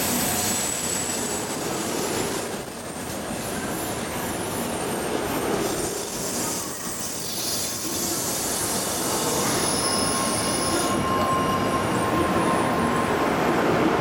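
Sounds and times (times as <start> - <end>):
steady high squeal: 0.0 - 2.9, 3.6 - 14.0
rumble of train wheels on rail: 0.0 - 14.0.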